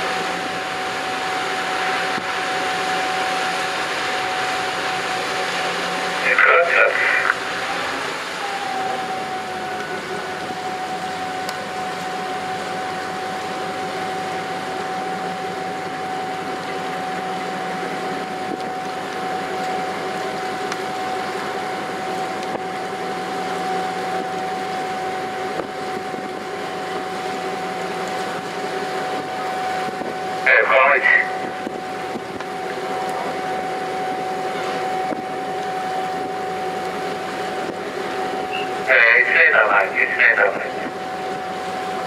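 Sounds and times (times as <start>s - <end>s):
boat jet wash and engine: 0.0s - 42.0s
high whine: 0.0s - 42.0s.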